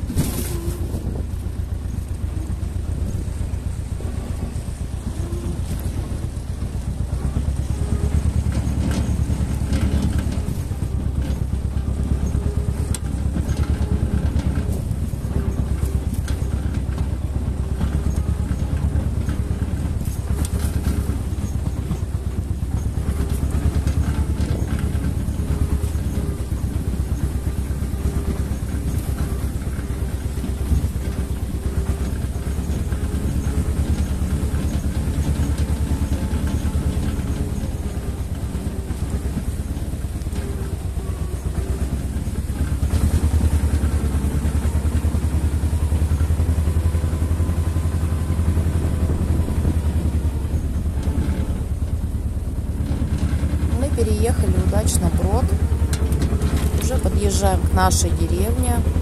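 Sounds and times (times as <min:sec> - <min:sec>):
vehicle engine running under load: 0:00.0 - 0:59.0.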